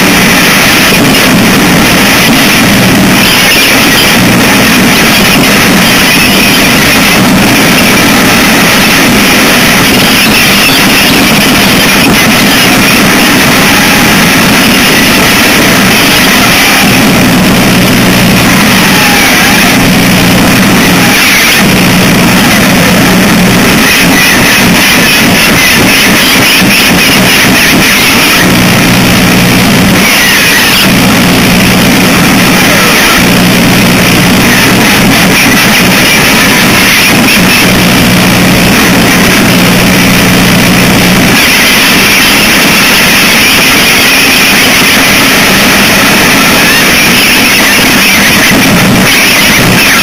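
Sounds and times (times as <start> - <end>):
low hum: 0.0 - 49.8
static hiss noise music: 0.0 - 50.0.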